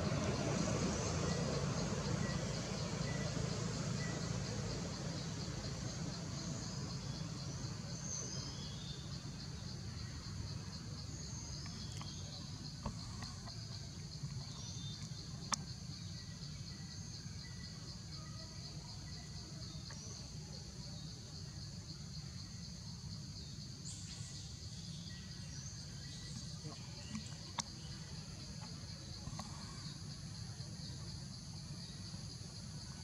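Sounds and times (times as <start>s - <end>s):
insects chirping trill: 0.0s - 33.0s.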